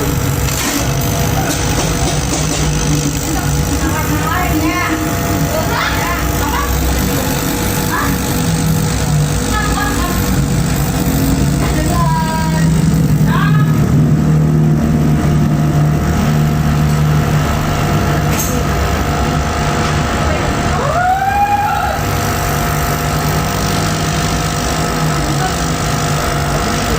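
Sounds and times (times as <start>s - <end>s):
laser cutter humming: 0.0s - 26.9s
rising and falling whine: 0.0s - 26.9s.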